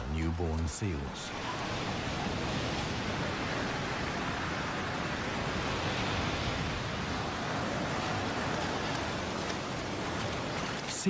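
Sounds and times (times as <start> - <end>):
surf breaking on shore: 1.3 - 11.0.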